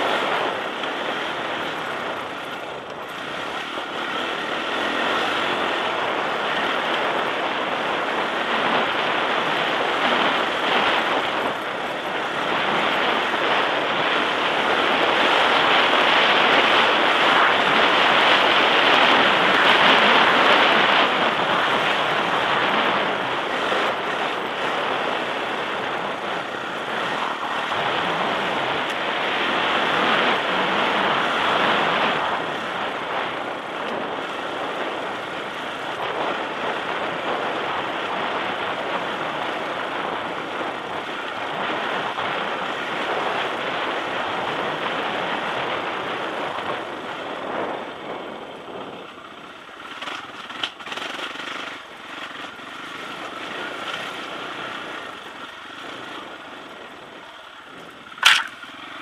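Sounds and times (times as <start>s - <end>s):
motorcycle engine under load: 0.0s - 59.0s
wind noise: 0.0s - 59.0s.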